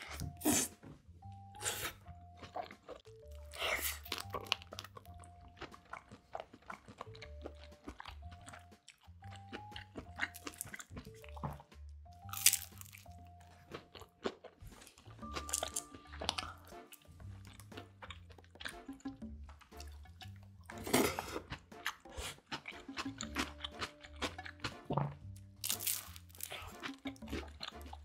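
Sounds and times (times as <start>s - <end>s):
quiet background music: 0.0s - 28.0s
chewing and crunching food: 1.4s - 28.0s.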